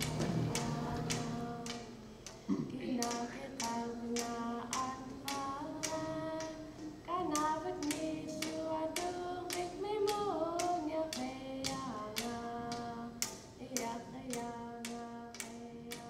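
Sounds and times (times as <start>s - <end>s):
voices singing long sliding notes: 0.0s - 16.0s.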